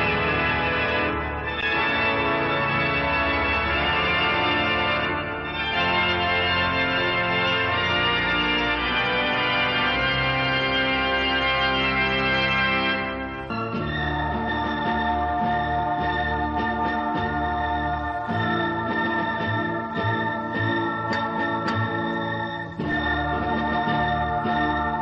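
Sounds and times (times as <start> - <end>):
sustained keyboard chords: 0.0 - 25.0.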